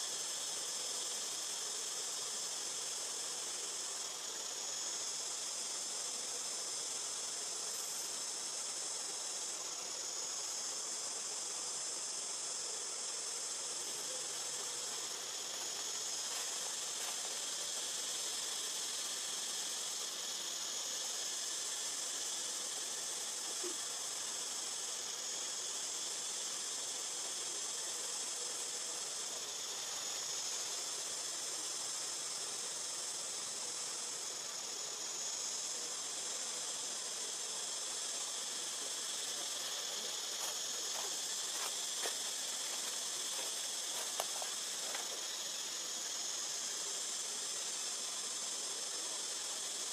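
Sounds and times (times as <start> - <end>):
insect chorus buzzing: 0.0 - 49.9.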